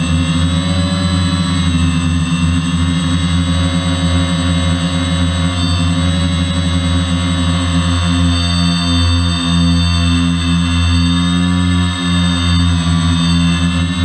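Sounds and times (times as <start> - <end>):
quadcopter motors buzzing: 0.0 - 14.0.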